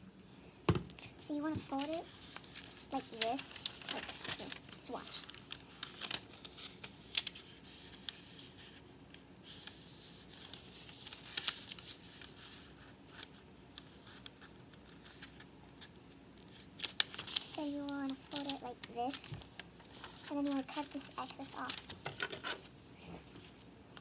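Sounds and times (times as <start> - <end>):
paper being folded and creased: 1.6 - 22.8.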